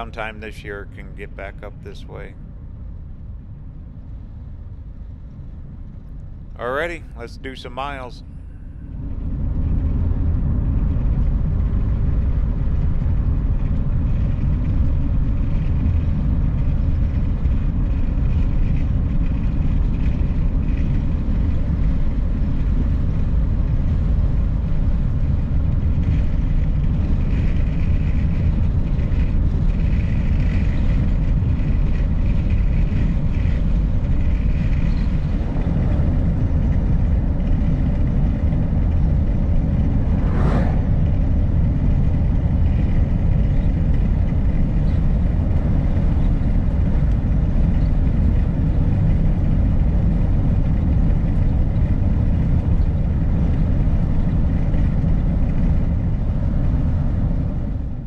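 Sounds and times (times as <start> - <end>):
van driving rumble: 0.0 - 58.0.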